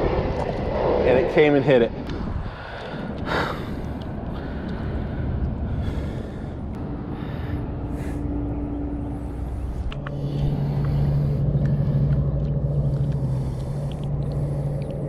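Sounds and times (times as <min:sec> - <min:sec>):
low engine drone: 0:00.0 - 0:15.0
steady hum: 0:00.0 - 0:15.0.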